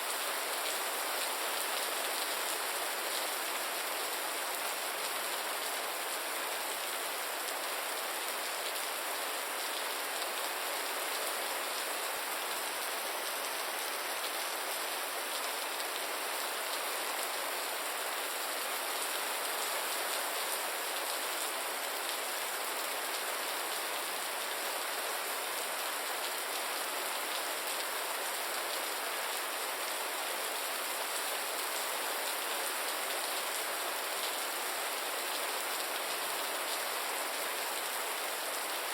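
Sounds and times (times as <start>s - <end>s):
rain pattering on surfaces: 0.1s - 38.9s.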